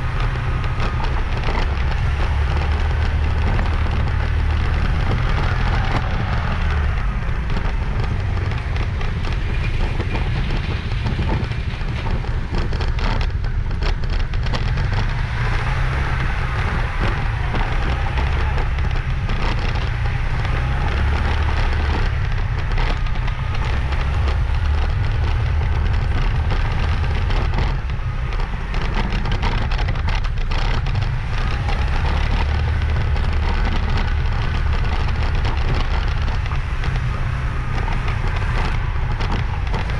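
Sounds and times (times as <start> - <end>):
motorbike engine: 0.0 - 39.9
road noise: 0.0 - 39.9
wind rumble on microphone: 0.0 - 39.9.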